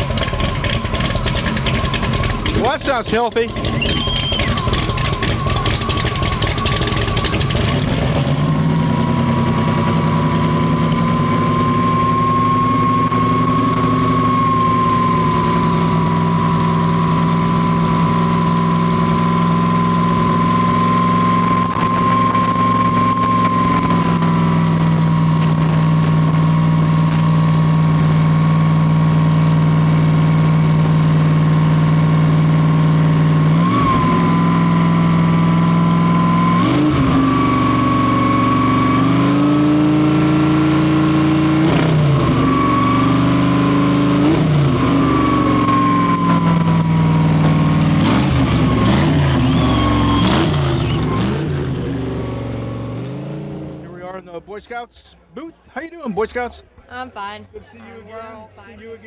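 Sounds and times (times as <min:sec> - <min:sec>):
engine running: 0:00.0 - 0:55.6.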